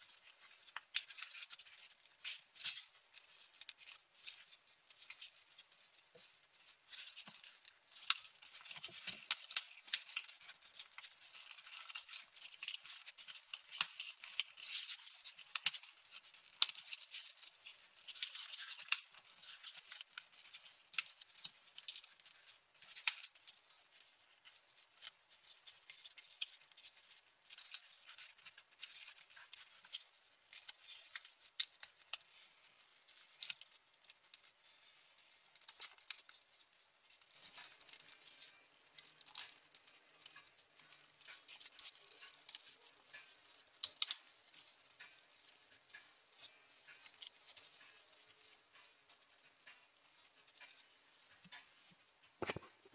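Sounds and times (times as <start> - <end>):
paper rustling and clicking: 0.0 - 52.9.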